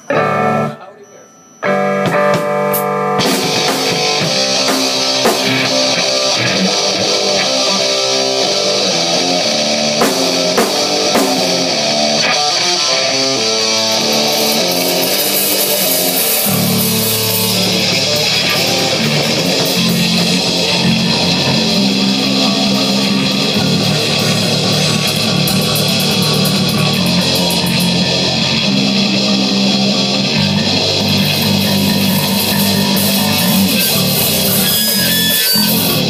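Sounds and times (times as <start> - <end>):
heavy metal electric guitar riff: 0.0 - 1.0, 1.6 - 36.0
drum kit: 1.8 - 36.0.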